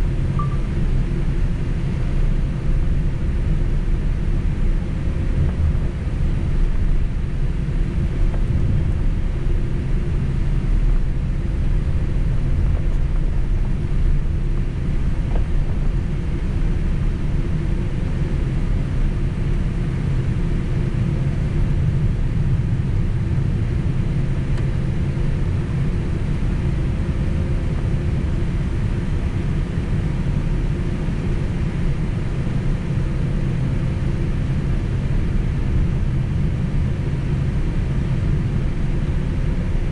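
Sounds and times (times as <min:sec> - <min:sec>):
faint steady hum: 0:00.0 - 0:39.9
jet engine cabin rumble: 0:00.0 - 0:39.9.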